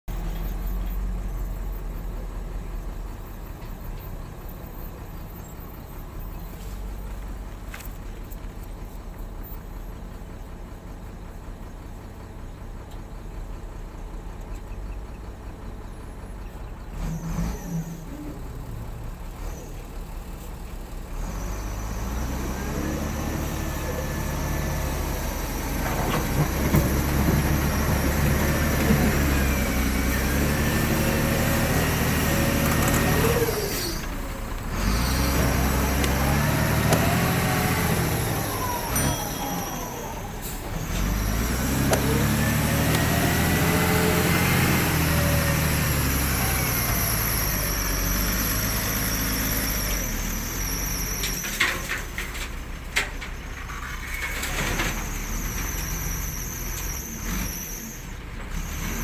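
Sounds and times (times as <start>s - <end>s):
diesel engines rumbling: 0.1s - 59.0s.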